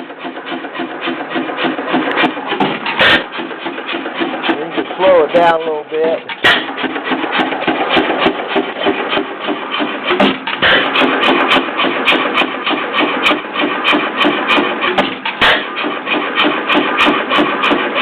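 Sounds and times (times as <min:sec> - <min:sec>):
gasoline engine clattering: 0:00.0 - 0:18.0.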